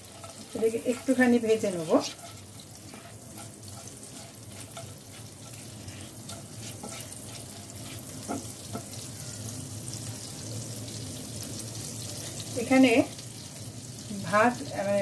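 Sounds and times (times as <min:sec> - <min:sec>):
spatula stirring in a pan: 0:00.0 - 0:14.1
butter sizzling with crackles: 0:00.0 - 0:15.0.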